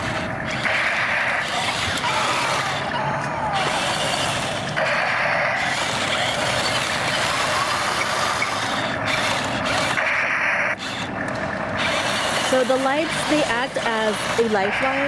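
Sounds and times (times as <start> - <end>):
steady high whine: 0.0 - 15.0
toy tank motors whirring: 0.0 - 15.0.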